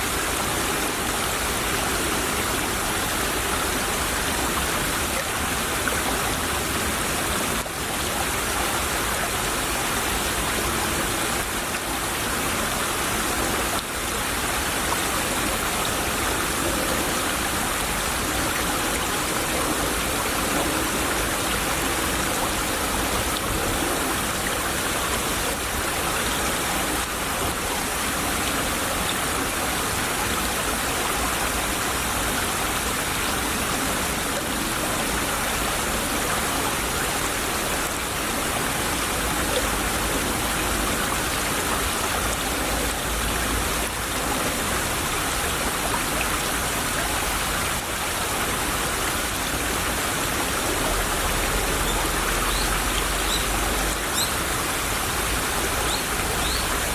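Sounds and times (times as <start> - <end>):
stream trickling and babbling: 0.0 - 56.9.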